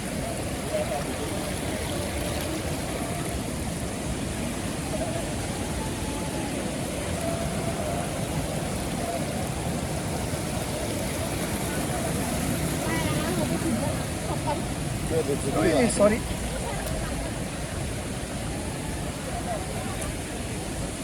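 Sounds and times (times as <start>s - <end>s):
waterfall rushing: 0.0s - 21.0s
wind buffeting microphone: 0.0s - 21.0s.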